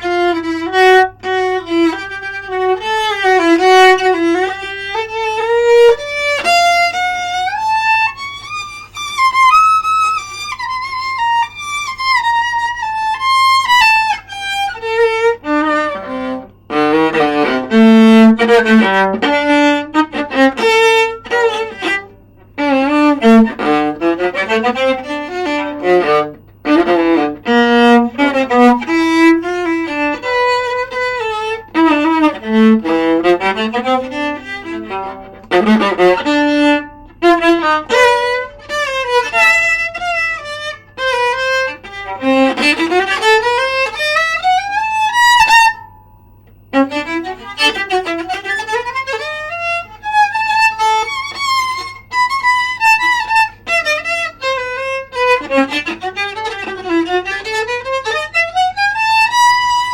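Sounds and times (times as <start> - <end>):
solo viola played with bow: 0.0 - 59.9.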